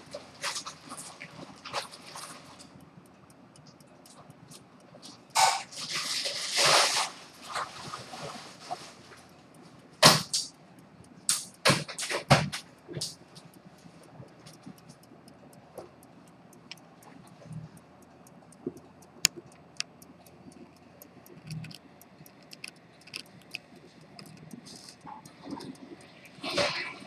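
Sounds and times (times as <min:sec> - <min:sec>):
pocket watch ticking: 0:00.0 - 0:06.2, 0:09.1 - 0:27.0.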